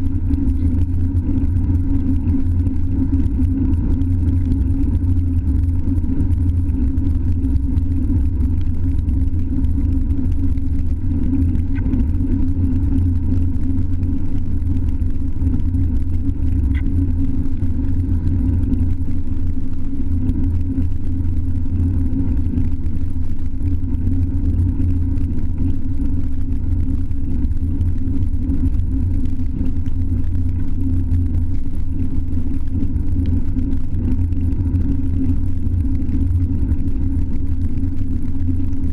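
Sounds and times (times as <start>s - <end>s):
road rumble: 0.0s - 38.9s.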